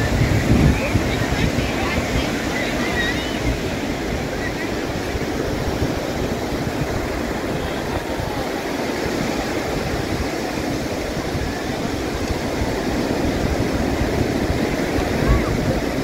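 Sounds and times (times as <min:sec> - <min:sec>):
surf on a sandy beach: 0:00.0 - 0:16.0.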